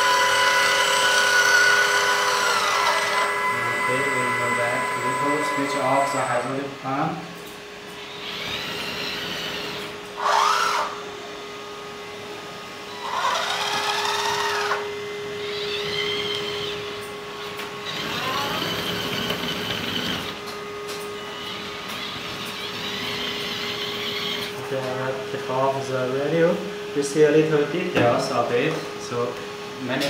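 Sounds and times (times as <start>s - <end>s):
electric motors whining: 0.0s - 30.0s
steady motor hum: 0.0s - 30.0s.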